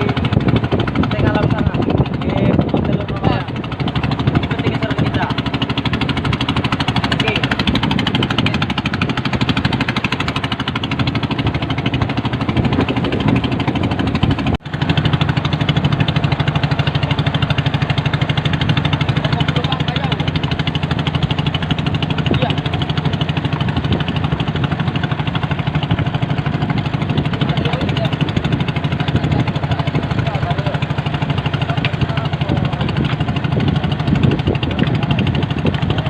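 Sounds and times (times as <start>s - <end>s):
boat engine knocking steadily: 0.0s - 36.0s.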